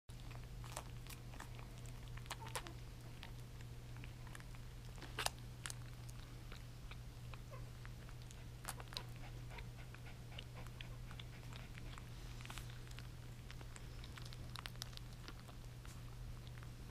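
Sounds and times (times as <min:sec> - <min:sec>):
puppies suckling: 0:00.1 - 0:16.9.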